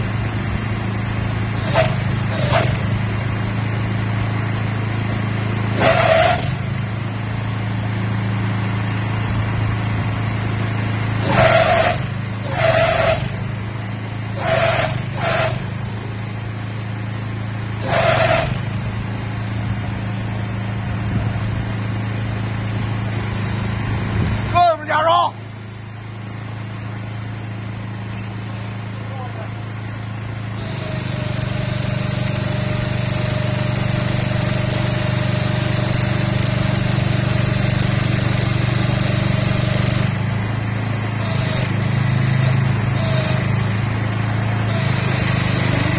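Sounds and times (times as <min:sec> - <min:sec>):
machine engine running: 0:00.0 - 0:24.6, 0:25.5 - 0:45.9.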